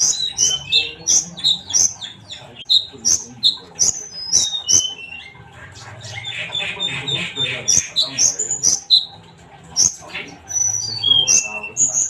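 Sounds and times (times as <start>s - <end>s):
bird chirping and whistling: 0.0s - 9.2s, 9.8s - 12.0s.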